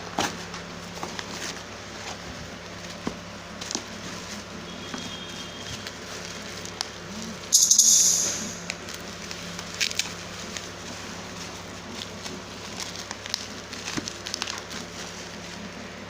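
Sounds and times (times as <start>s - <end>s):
packaging rustling: 0.2s - 7.4s, 8.6s - 15.9s.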